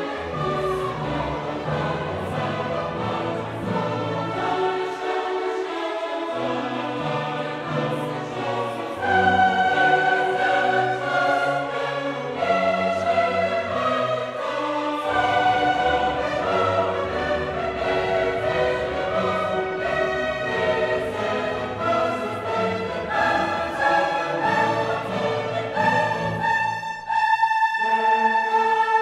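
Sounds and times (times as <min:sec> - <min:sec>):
choir singing held notes: 0:00.0 - 0:29.0
orchestra: 0:00.0 - 0:29.0.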